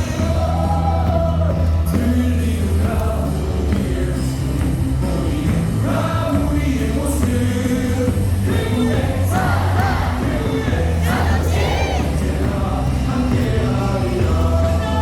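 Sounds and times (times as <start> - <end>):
cheer songs over loudspeakers: 0.0 - 15.0
crowd singing along: 0.0 - 15.0.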